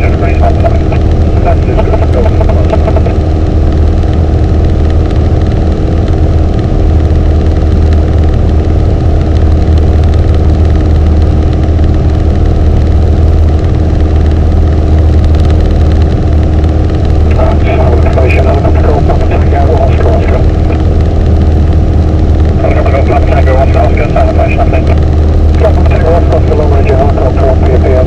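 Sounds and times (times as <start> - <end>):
airplane engine and propeller drone: 0.0 - 28.0.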